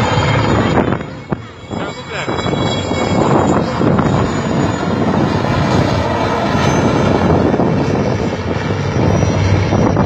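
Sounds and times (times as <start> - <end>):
aircraft engine running: 0.0 - 10.0.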